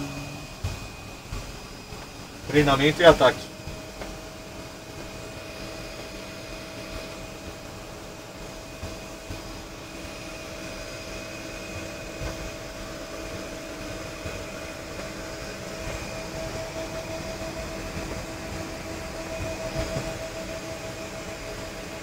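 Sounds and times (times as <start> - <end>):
aircraft machinery hum and whine: 0.0 - 22.0
constant tones: 0.0 - 22.0.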